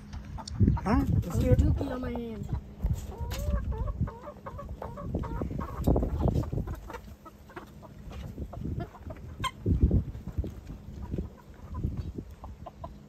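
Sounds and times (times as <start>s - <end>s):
low rumble on microphone: 0.0s - 12.9s
hens clucking: 0.0s - 13.0s.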